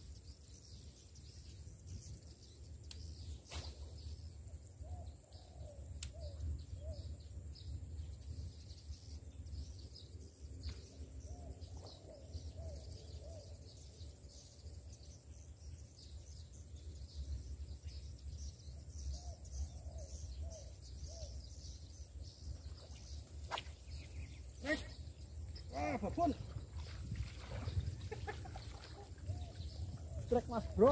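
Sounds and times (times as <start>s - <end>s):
birds chirping: 0.1s - 30.9s.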